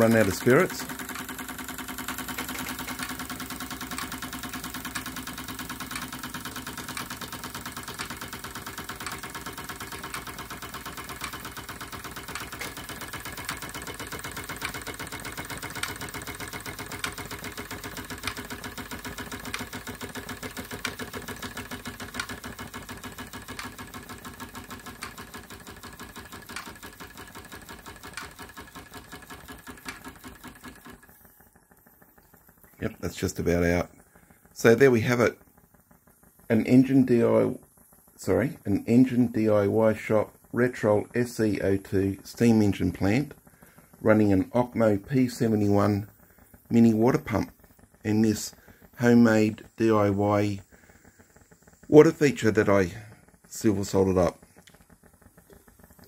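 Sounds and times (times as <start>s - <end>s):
model steam engine beat: 0.0s - 56.0s.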